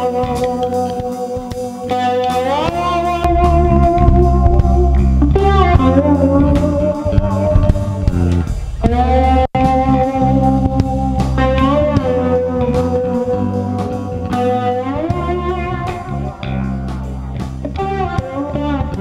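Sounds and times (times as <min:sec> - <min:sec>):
guitar-led instrumental music: 0:00.0 - 0:19.0.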